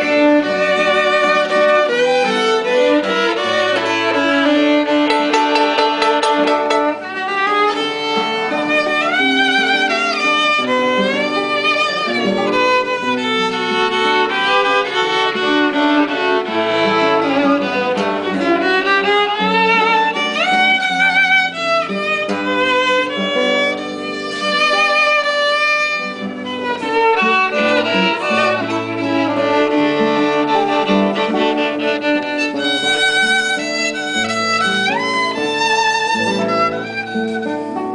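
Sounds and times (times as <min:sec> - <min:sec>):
violin playing hymn melody: 0:00.0 - 0:37.9.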